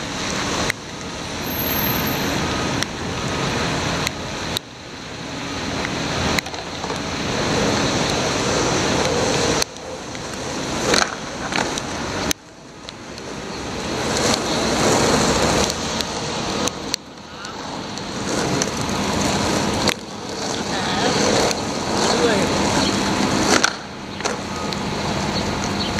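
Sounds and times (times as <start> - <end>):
wheels hissing on wet asphalt: 0.0 - 25.9.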